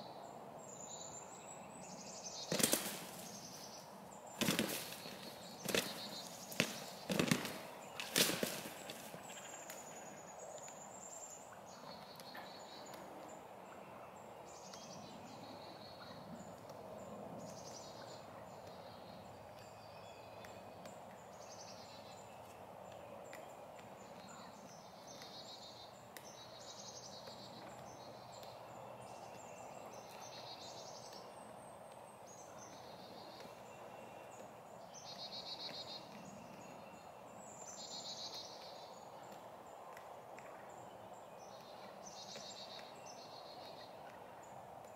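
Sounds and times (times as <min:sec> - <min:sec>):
background hiss of woods: 0:00.0 - 0:44.9
songbirds singing: 0:00.0 - 0:44.9.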